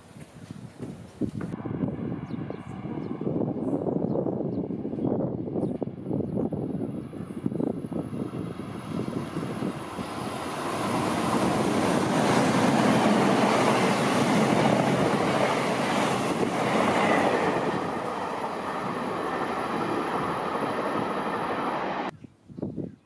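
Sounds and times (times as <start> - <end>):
train passing at speed: 1.5 - 22.1.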